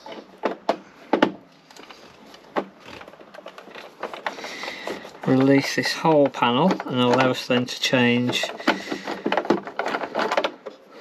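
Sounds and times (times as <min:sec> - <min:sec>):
tool clicking and knocking: 0:00.1 - 0:10.8.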